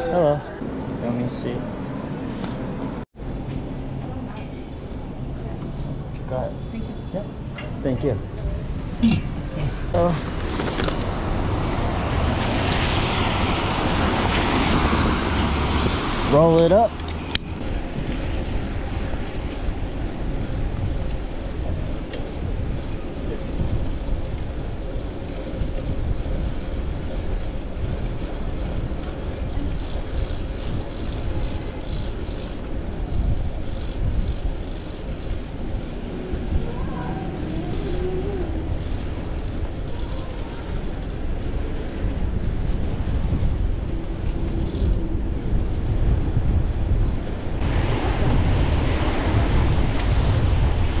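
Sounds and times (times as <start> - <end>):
wind buffeting microphone: 4.1 - 51.0
tyres hissing on wet street: 8.3 - 51.0.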